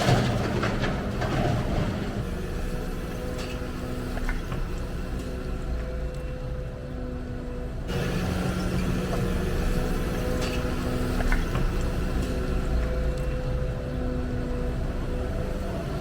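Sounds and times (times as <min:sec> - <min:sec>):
excavator diesel engine: 0:00.0 - 0:16.0.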